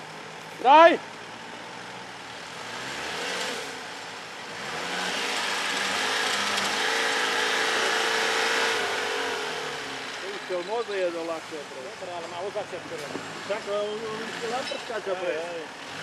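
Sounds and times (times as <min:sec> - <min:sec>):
engine revving under load: 0:01.9 - 0:11.7, 0:12.4 - 0:16.0.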